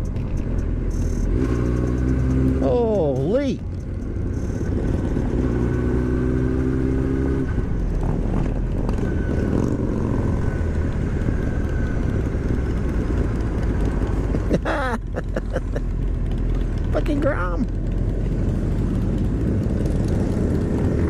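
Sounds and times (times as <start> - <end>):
motorcycle engine: 0.0 - 21.0.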